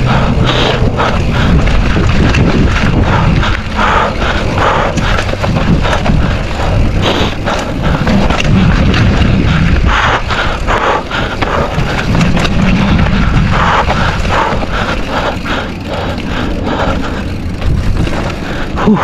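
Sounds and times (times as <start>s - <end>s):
bike rattling: 0.0s - 19.0s
bike tyres rumbling over stones: 0.0s - 19.0s.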